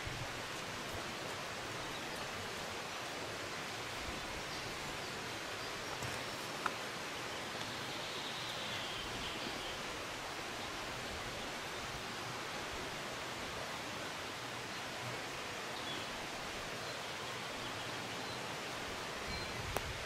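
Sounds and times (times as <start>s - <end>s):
forest ambience hiss: 0.0s - 20.0s.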